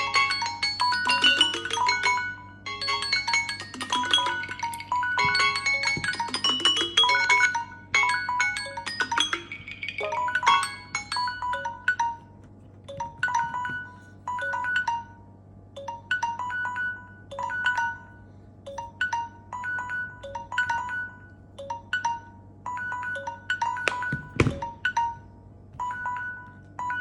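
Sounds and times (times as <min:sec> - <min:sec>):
phone alarm melody: 0:00.0 - 0:12.3, 0:12.9 - 0:15.2, 0:15.8 - 0:27.0.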